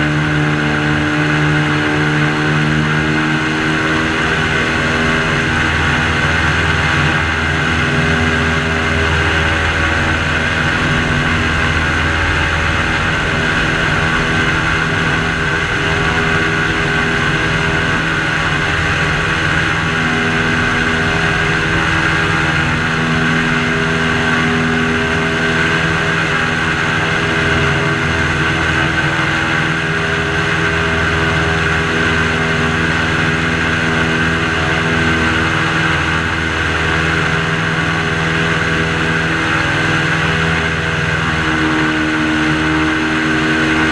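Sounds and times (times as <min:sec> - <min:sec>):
airboat engine droning: 0:00.0 - 0:43.9.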